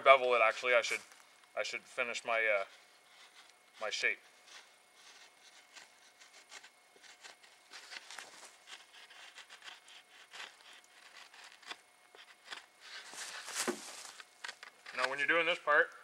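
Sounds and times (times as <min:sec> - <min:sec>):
knife shaving wood: 0:02.2 - 0:15.6.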